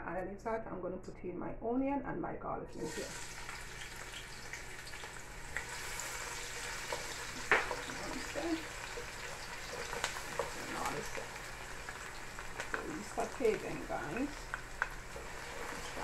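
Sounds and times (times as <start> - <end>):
onion and garlic sizzling: 2.8 - 16.0.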